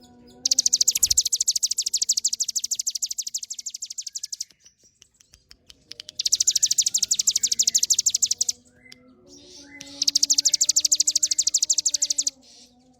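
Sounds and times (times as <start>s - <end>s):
bird singing rapid high notes: 0.0s - 12.5s.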